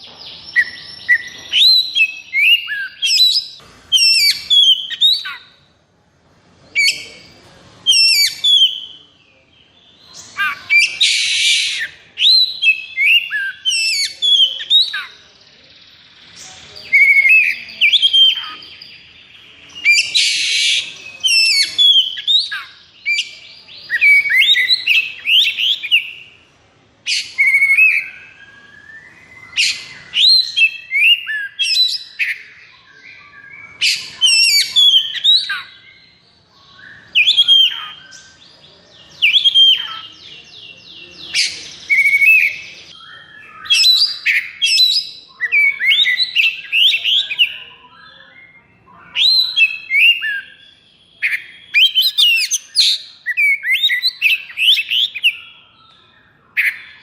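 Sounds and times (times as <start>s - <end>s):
bird whistling song: 0.0s - 5.6s, 6.7s - 9.4s, 10.0s - 26.4s, 27.0s - 57.0s.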